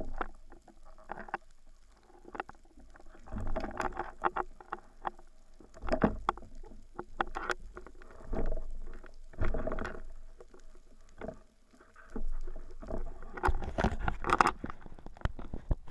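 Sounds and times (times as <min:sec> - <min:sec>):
clicks and knocks of diving gear: 0:00.0 - 0:15.9.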